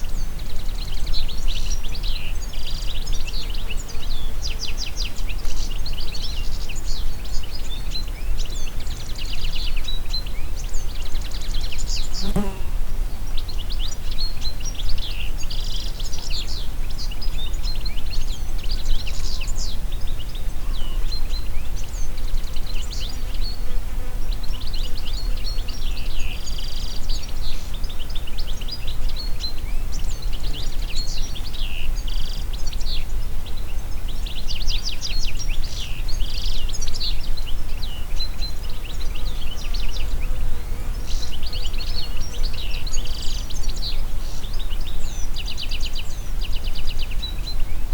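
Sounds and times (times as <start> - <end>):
wind through forest trees: 0.0 - 47.9.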